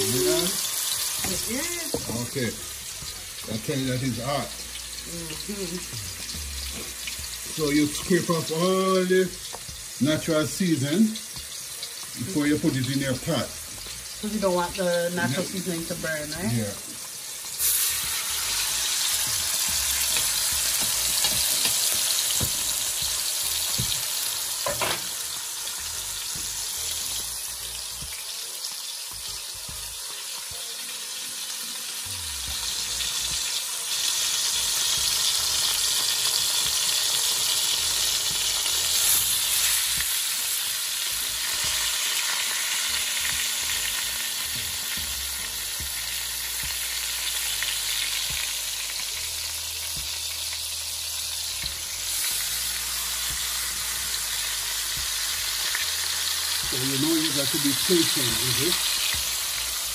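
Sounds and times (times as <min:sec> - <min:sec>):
meat sizzling in oil: 0:00.0 - 0:59.9.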